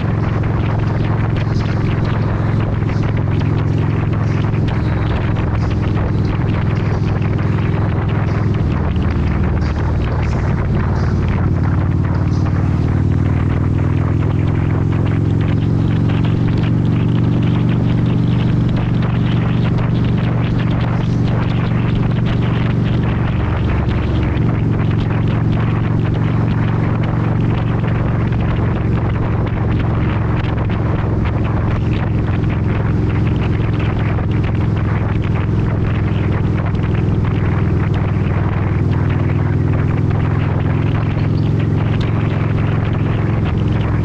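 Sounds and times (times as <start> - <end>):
motorcycle engine running: 0.0 - 44.0
wind noise: 0.0 - 44.0.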